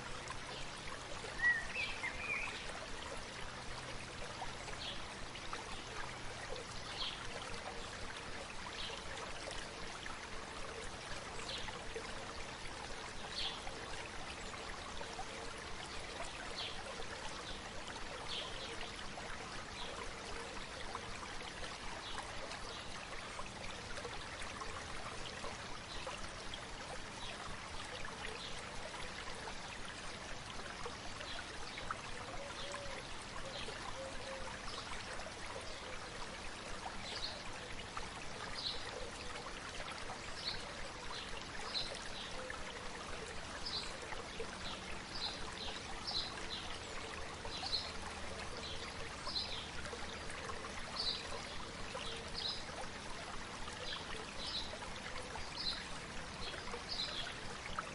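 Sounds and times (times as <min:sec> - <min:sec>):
river babbling: 0:00.0 - 0:57.9.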